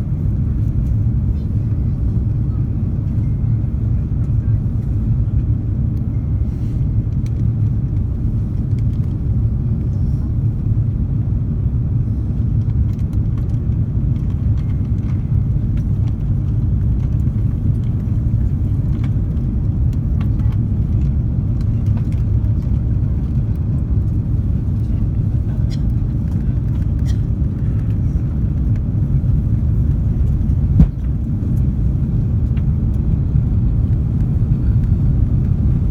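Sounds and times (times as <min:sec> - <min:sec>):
aircraft cabin engine rumble: 0:00.0 - 0:35.9.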